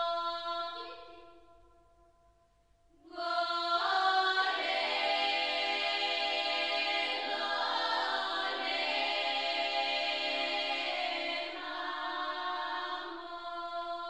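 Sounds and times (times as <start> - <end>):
choir-like sustained voices: 0.0 - 1.4, 3.0 - 14.0.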